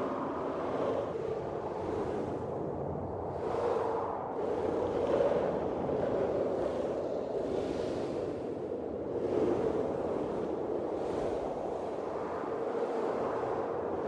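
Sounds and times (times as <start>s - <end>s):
gusting blizzard wind: 0.0s - 14.0s.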